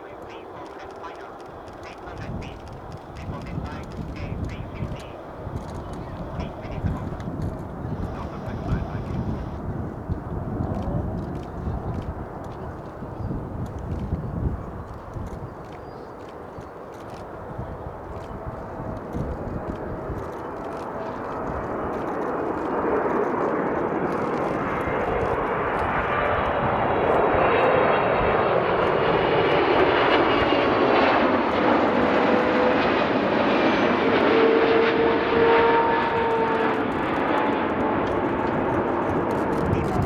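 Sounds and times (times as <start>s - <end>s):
jet engines of airliner passing: 0.0s - 40.0s.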